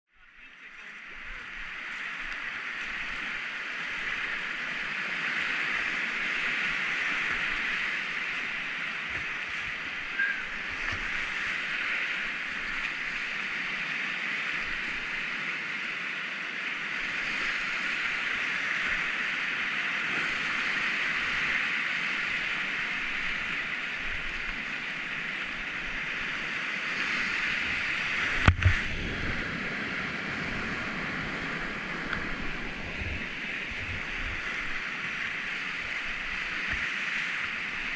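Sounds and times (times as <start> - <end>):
whitewater rushing: 0.4 - 37.9.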